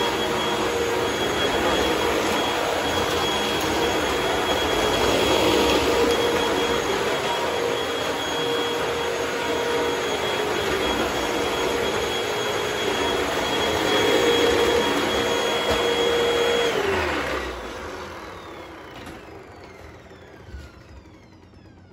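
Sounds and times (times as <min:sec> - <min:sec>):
motor winding down: 0:00.0 - 0:21.9
vacuum cleaner motor whine: 0:00.0 - 0:21.9.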